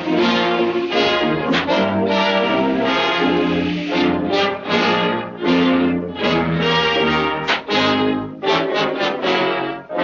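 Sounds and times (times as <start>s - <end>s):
orchestral brass held notes: 0.0s - 10.0s.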